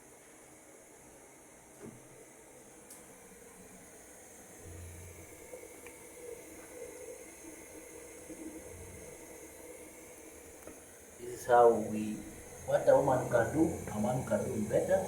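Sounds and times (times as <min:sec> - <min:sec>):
gas burner hiss: 0:01.7 - 0:15.0.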